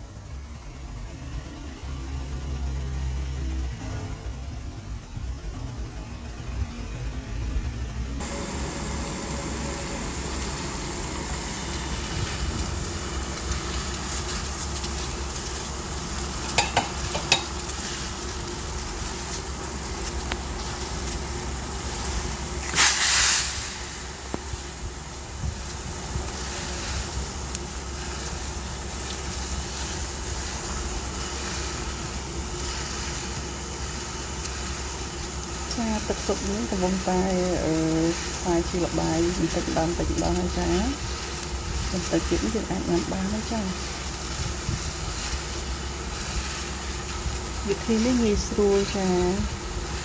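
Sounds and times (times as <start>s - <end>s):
broth boiling and bubbling: 0.0s - 50.0s.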